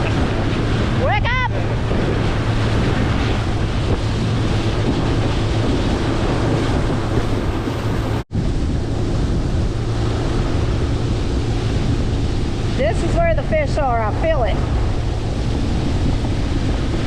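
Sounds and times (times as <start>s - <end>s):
boat motor humming: 0.0s - 17.0s
rushing water: 0.0s - 17.0s
wind buffeting microphone: 0.0s - 17.0s.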